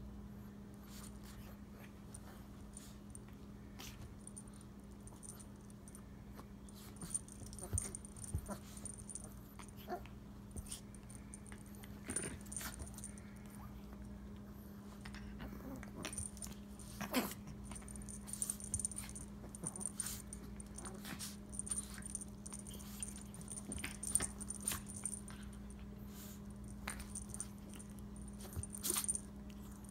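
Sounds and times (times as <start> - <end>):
steady low hum: 0.0 - 29.9
dogs nibbling and snuffling: 2.2 - 9.8, 10.5 - 29.9.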